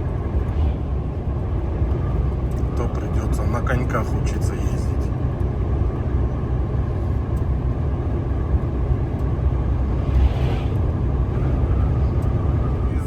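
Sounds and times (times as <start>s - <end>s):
diesel engine rumble: 0.0s - 13.0s
tyres on road: 0.0s - 13.0s.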